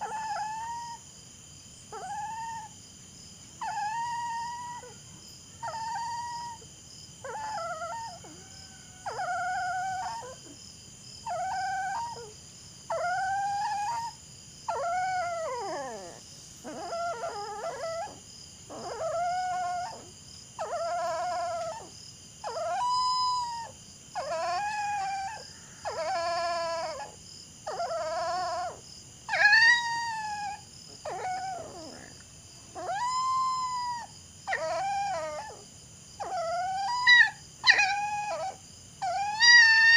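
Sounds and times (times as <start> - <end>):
dog howling and whining: 0.0 - 1.1, 1.9 - 2.8, 3.6 - 10.6, 11.2 - 39.9.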